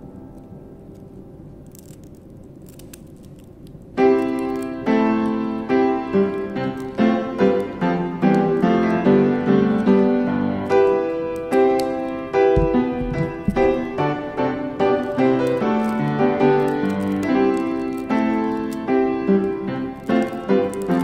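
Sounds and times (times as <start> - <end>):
piano music: 0.0 - 2.0, 3.9 - 21.0.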